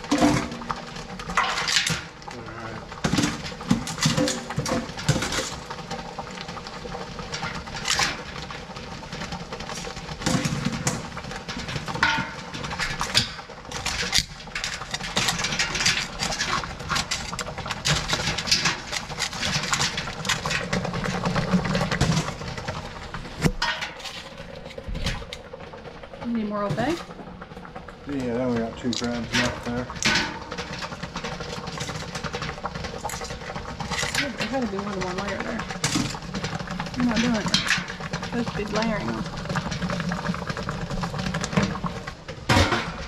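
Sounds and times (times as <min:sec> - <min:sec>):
crab shells clattering in metal pot: 0:00.0 - 0:43.0
pot boiling and steaming: 0:00.0 - 0:43.0.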